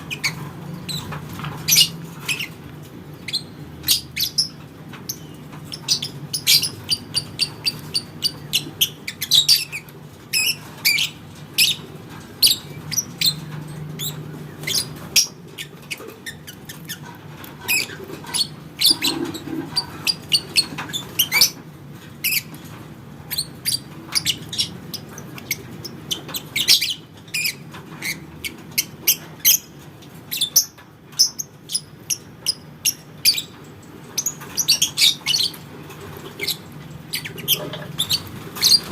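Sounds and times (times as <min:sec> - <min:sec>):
lovebird chirps and squawks: 0:00.1 - 0:02.6, 0:03.2 - 0:21.6, 0:23.3 - 0:29.7, 0:30.3 - 0:38.9.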